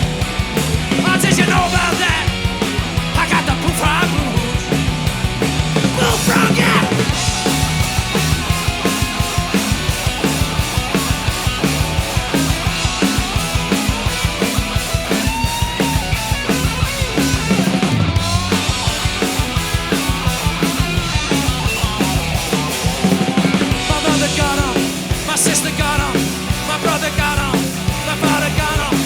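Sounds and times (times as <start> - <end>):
blues rock band playing: 0.0 - 29.0
drum kit fast beat: 0.0 - 29.0.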